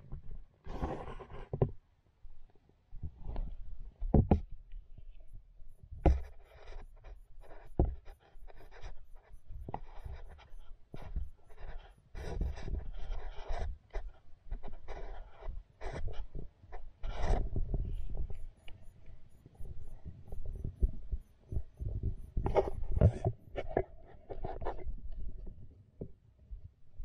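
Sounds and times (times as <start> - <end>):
underwater knocks and scraping: 3.0 - 26.2.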